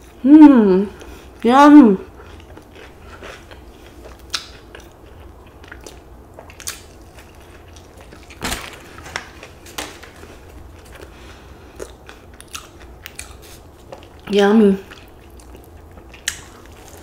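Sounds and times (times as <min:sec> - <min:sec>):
faint low hum: 0:00.0 - 0:17.0
close-up chewing: 0:02.0 - 0:08.5, 0:09.2 - 0:17.0.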